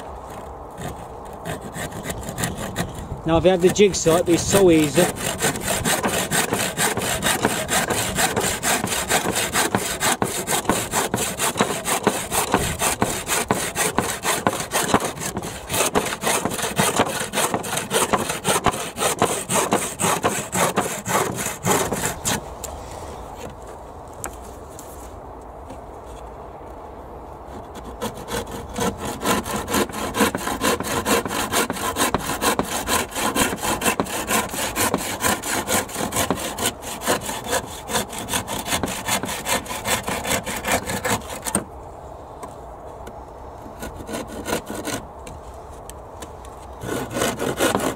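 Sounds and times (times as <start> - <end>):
handsaw cutting wood: 0.3 - 23.5, 27.5 - 41.7, 43.8 - 45.0, 46.8 - 47.9.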